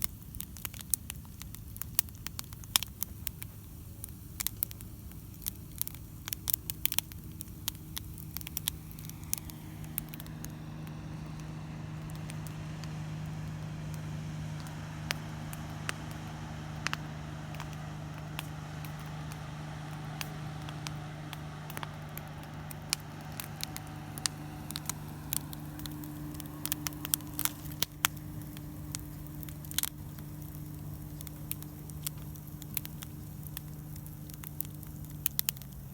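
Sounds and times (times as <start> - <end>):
campfire crackling: 0.0 - 35.9
steady low hum: 0.0 - 35.9.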